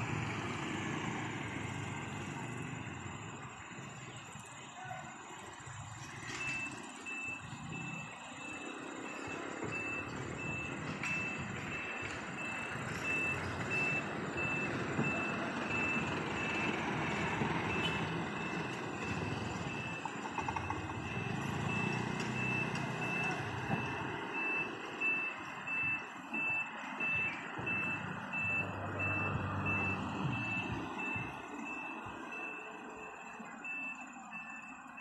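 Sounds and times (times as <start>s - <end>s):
passing vehicle engines: 0.0s - 35.0s
truck reversing alarm beeping: 0.0s - 35.0s.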